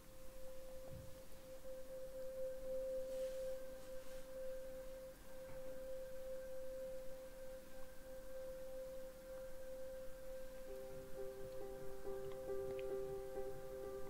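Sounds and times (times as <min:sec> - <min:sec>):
sustained drone tone: 0:00.0 - 0:14.0.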